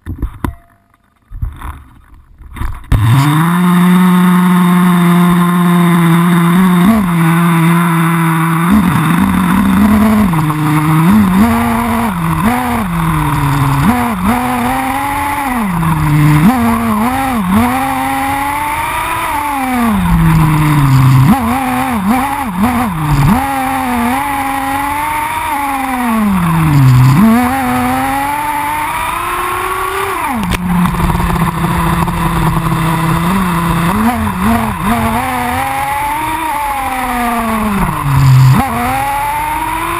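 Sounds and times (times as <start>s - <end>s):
model buggy engine revving: 2.9s - 39.9s.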